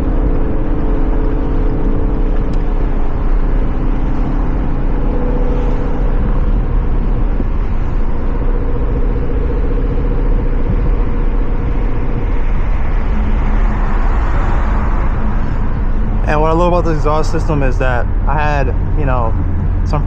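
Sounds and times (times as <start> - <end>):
car engine exhaust note: 0.0 - 20.0.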